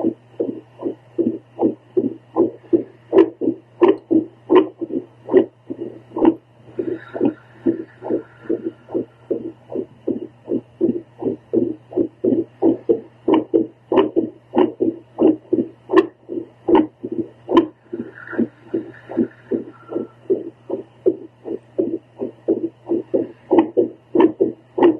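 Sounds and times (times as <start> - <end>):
doppler heartbeat pulses: 0.0 - 24.9
steady low hum: 0.0 - 24.9.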